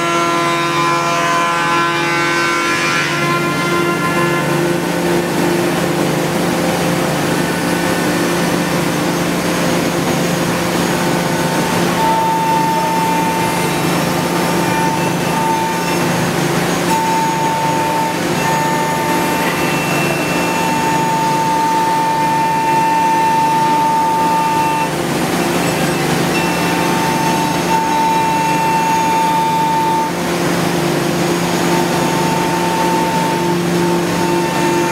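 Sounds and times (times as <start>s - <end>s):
wood router mechanical hum: 0.0s - 34.9s
high whine: 1.4s - 34.9s.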